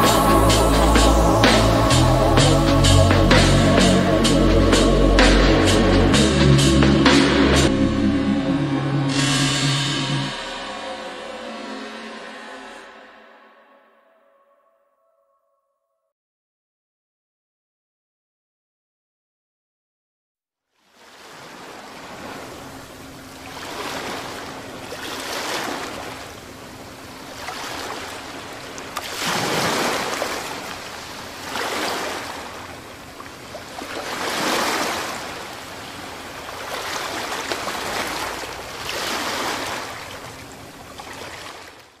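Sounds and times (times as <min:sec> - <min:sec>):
water waves washing in: 0:00.0 - 0:13.3, 0:20.8 - 0:42.0.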